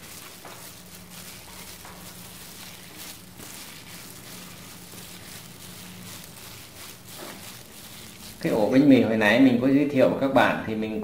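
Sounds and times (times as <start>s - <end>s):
squelches of meat being kneaded: 0.0s - 9.7s.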